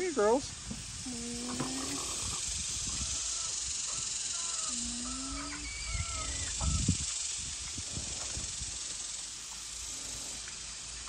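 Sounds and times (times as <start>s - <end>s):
high-pitched outdoor hiss: 0.0s - 11.0s.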